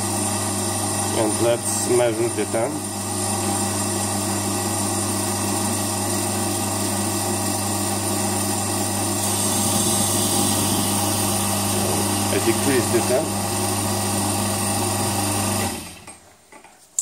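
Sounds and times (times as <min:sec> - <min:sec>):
vacuum pump humming: 0:00.0 - 0:16.2.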